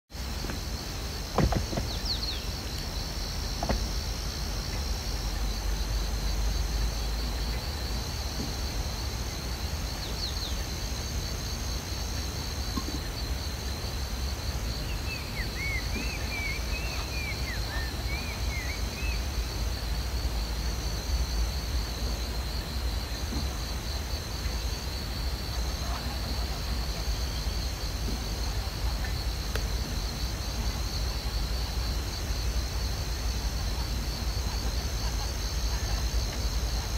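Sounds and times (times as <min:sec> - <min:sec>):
insects chirring: 0:00.1 - 0:36.9.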